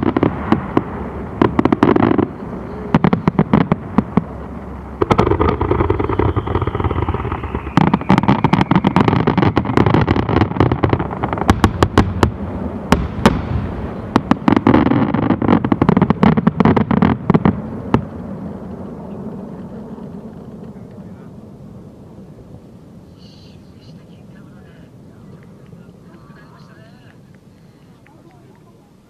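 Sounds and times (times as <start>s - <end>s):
fireworks bangs: 0.0s - 29.0s
fireworks rumble: 0.0s - 29.0s.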